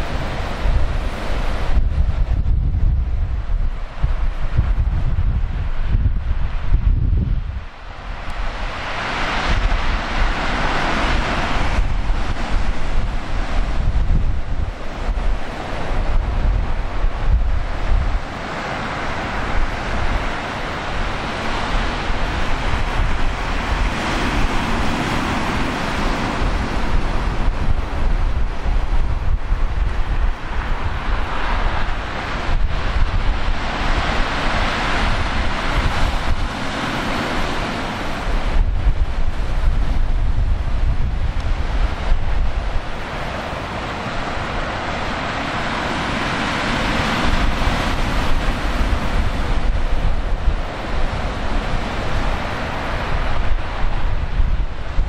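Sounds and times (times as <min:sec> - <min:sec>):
heavy surf breaking: 0:00.0 - 0:55.0
wind buffeting microphone: 0:00.0 - 0:55.0.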